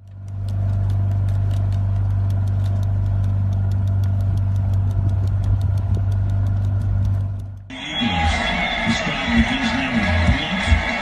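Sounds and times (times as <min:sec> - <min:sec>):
motorboat engine humming: 0:00.0 - 0:10.9
fast regular ticking: 0:00.0 - 0:11.0.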